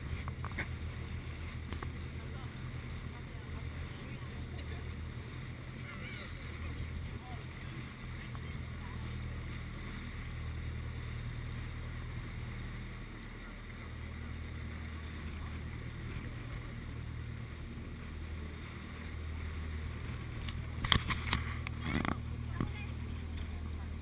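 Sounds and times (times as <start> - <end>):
boat engine droning: 0.0 - 24.0
water noise: 0.0 - 24.0.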